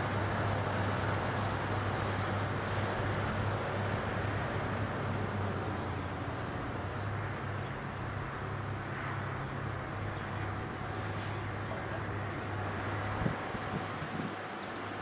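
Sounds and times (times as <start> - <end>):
combine harvester engine humming: 0.0 - 15.0.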